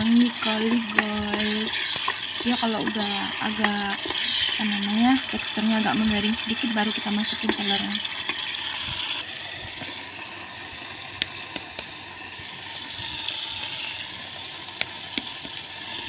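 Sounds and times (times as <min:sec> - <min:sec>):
sauce sizzling in hot oil: 0:00.0 - 0:16.0.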